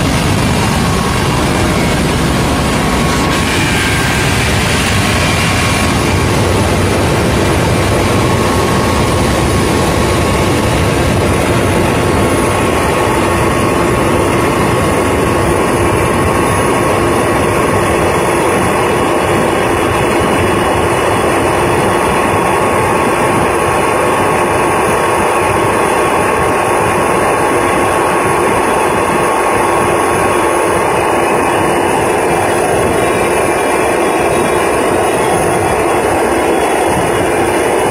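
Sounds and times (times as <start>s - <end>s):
helicopter engine and rotors droning: 0.0s - 37.9s
high whine: 0.0s - 37.9s.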